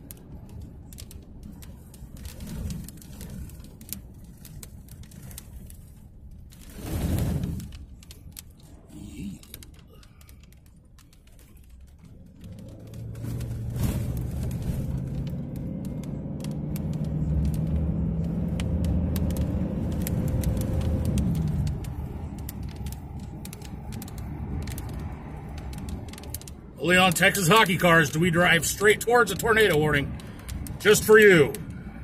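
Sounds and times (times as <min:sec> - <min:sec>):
tyres on gravel road: 0:00.0 - 0:32.0
vehicle engine: 0:00.0 - 0:32.0.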